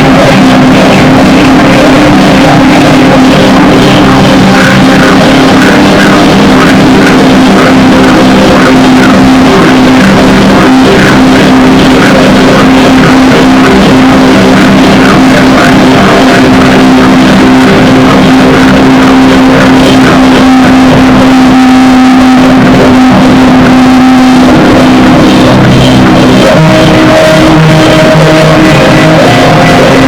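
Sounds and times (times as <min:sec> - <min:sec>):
distorted drone noise music: 0:00.0 - 0:30.0.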